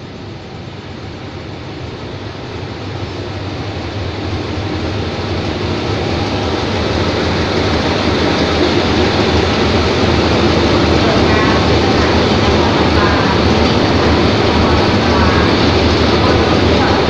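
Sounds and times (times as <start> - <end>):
locomotive engine drone: 0.0 - 17.0
train wheels on rails: 0.0 - 17.0.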